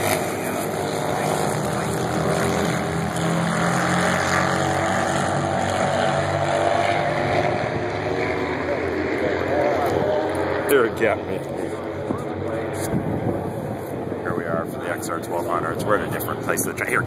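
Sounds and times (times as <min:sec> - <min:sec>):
motorcycle engines droning: 0:00.0 - 0:17.0.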